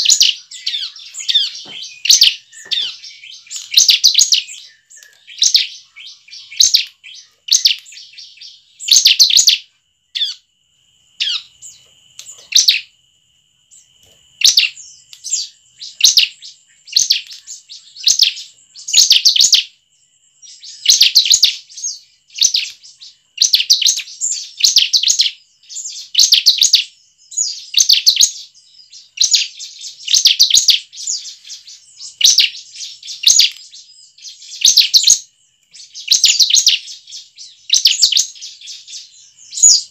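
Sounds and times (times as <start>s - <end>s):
bird singing high chipping notes: 0.0s - 10.4s, 13.7s - 39.9s.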